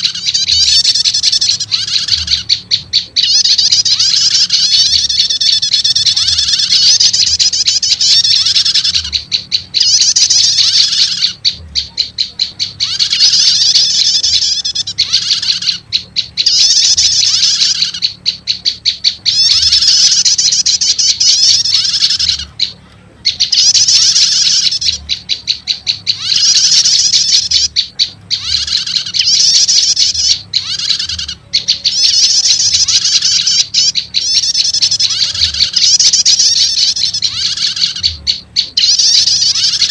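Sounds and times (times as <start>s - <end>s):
arched lower bird notes: 0.0s - 39.9s
high bird chattering: 0.0s - 39.9s.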